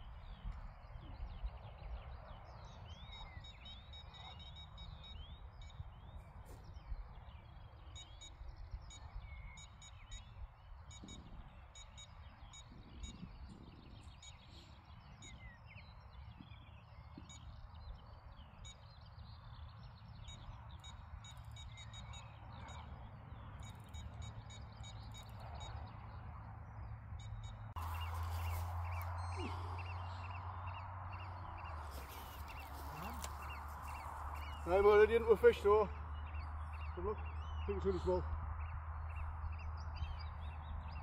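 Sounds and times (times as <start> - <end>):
high bird calls: 2.7 - 41.0.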